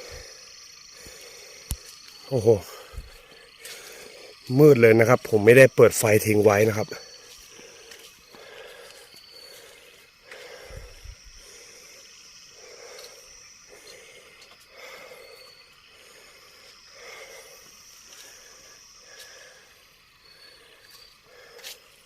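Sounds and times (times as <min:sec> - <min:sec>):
frogs croaking: 0:00.0 - 0:22.0
high-pitched insect drone: 0:00.0 - 0:22.0.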